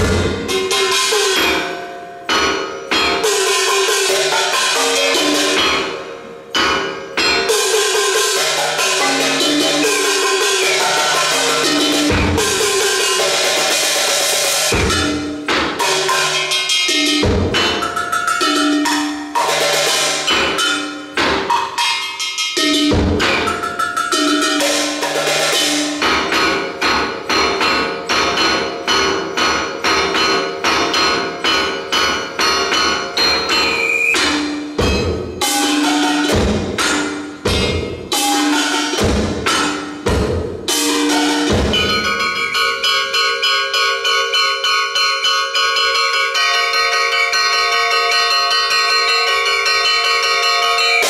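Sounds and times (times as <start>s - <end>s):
small percussion rolls and strikes: 0.0s - 51.0s.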